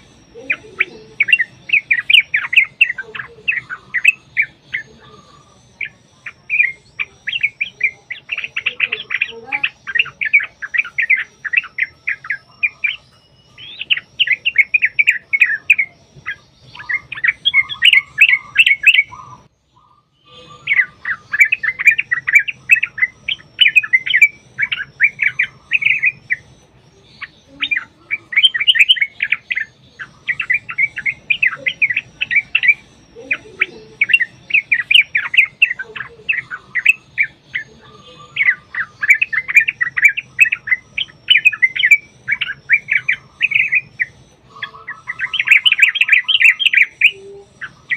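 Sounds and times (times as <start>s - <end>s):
bulbuls chattering calls: 0.0s - 47.9s.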